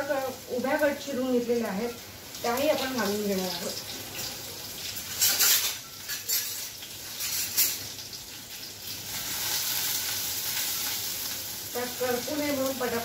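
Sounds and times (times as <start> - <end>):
garlic and chillies sizzling in oil: 0.0 - 13.0.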